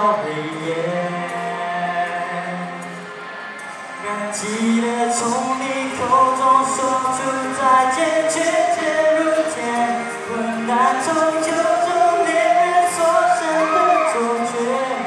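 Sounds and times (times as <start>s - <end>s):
man singing into a microphone: 0.0s - 3.1s, 4.0s - 15.0s.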